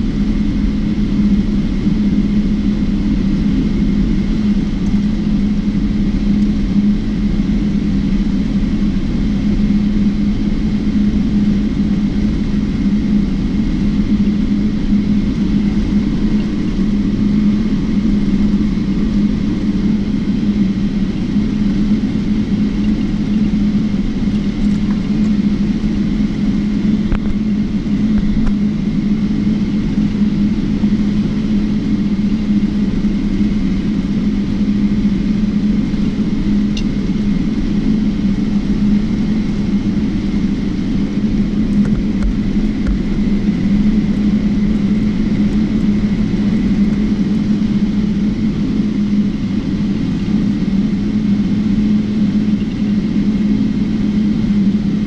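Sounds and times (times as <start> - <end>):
faint high engine whine: 0.0 - 55.0
jet engines humming at idle: 0.0 - 55.0.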